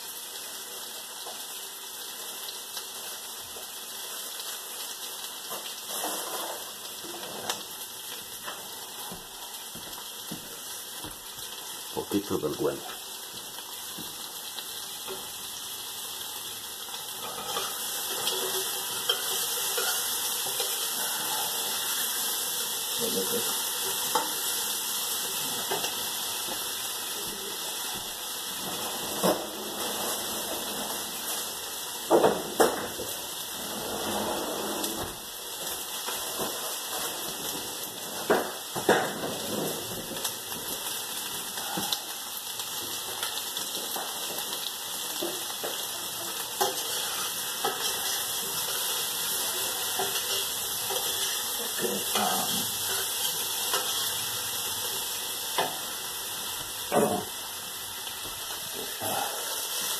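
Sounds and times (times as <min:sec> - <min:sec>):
onion sizzling in oil: 0:00.0 - 0:59.9.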